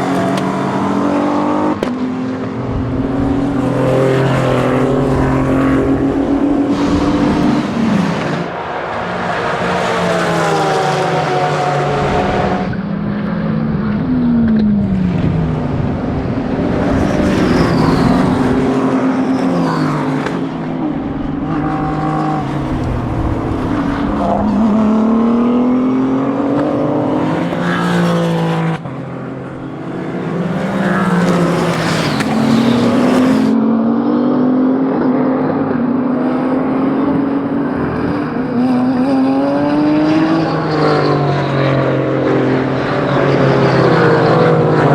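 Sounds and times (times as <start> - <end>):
racing car engines revving: 0.0 - 44.9.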